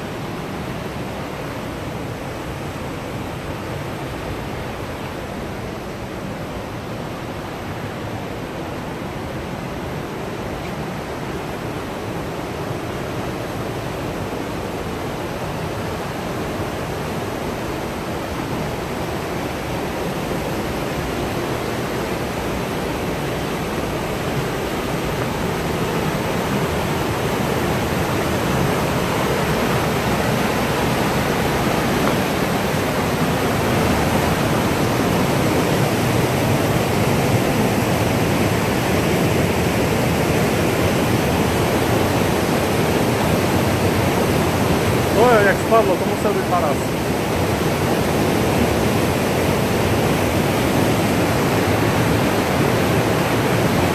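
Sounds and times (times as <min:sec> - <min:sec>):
river rapids rushing over boulders: 0:00.0 - 0:53.9.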